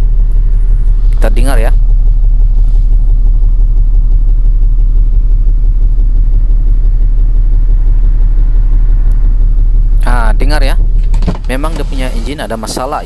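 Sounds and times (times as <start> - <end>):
diesel engine idling rough: 0.0 - 13.0.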